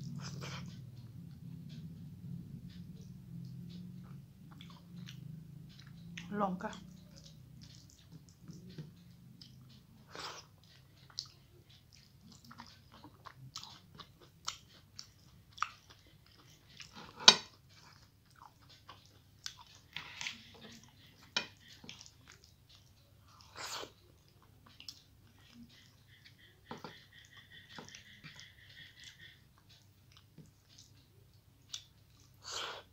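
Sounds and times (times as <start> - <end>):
chewing with wet mouth clicks: 4.5 - 32.8.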